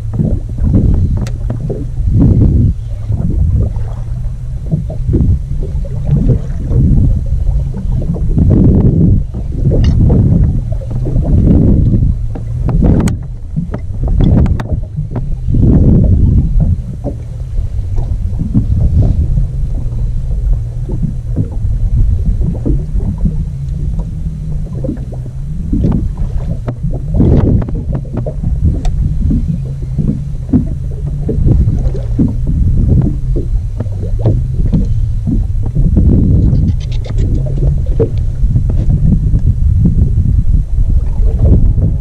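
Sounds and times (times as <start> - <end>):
low steady hum: 0.0 - 42.0
water slapping boat hull: 0.0 - 42.0
wind buffeting microphone: 0.0 - 42.0.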